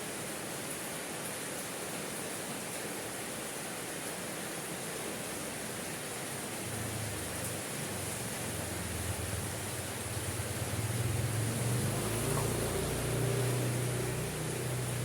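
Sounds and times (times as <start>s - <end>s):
rain hissing: 1.6s - 15.0s.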